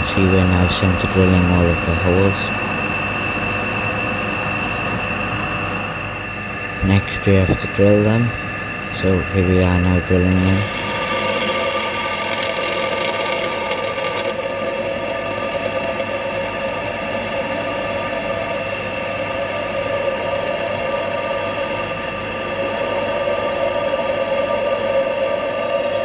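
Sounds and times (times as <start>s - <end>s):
drill cutting metal: 0.0s - 24.0s
milling machine spindle running: 0.0s - 26.0s.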